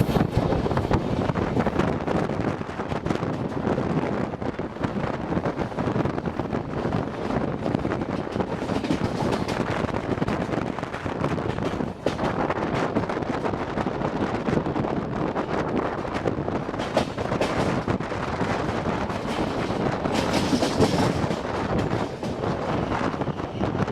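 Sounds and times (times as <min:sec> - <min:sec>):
train rushing and clattering: 0:00.0 - 0:23.9
wind buffeting microphone: 0:00.0 - 0:23.9.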